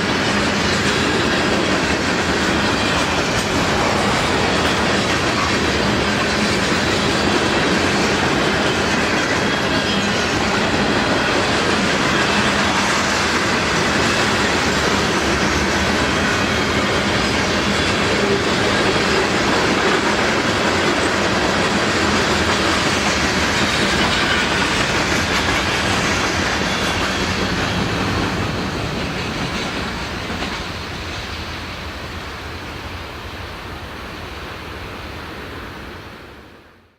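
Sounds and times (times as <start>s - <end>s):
train wheels on rails: 0.0s - 36.7s.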